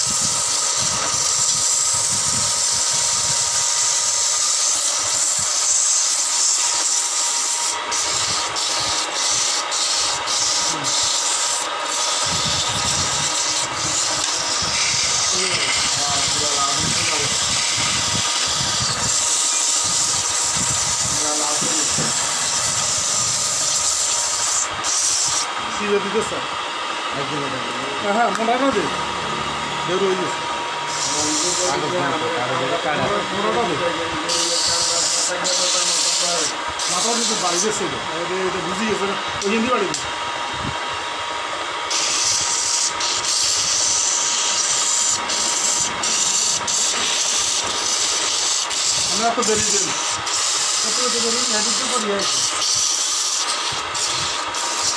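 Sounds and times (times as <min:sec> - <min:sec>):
sandpaper sanding spinning wood: 0:00.0 - 0:29.0, 0:29.8 - 0:40.0, 0:41.0 - 0:54.9.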